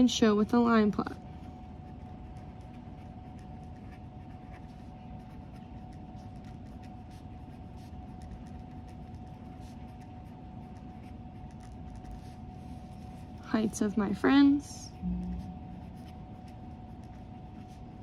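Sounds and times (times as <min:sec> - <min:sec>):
low room hum: 0:00.0 - 0:18.0
pen scratching on paper: 0:01.4 - 0:18.0.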